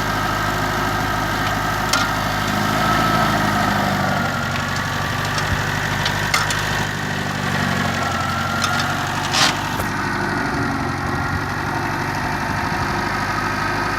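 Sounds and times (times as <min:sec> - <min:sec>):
forklift engine idling: 0:00.0 - 0:13.9.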